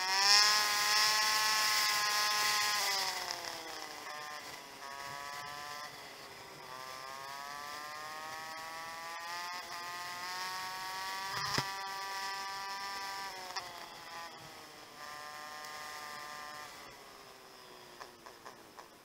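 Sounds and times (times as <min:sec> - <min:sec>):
motorcycle engine riding: 0:00.0 - 0:19.0.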